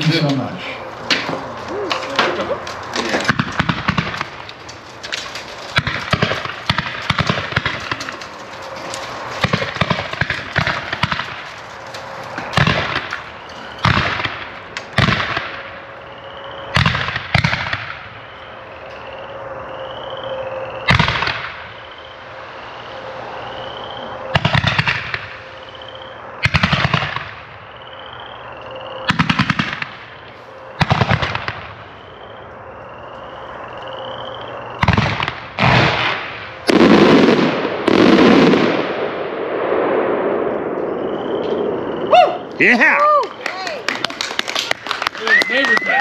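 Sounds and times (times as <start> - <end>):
fireworks crackling bursts: 0.0 - 18.7, 20.8 - 28.0, 29.0 - 46.0.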